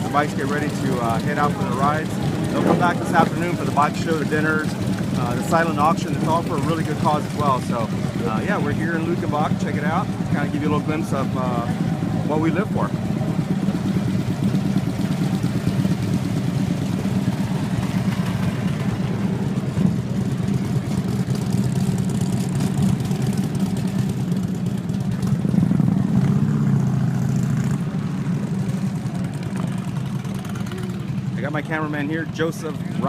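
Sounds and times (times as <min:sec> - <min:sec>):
motorcycle engines idling: 0:00.0 - 0:33.0.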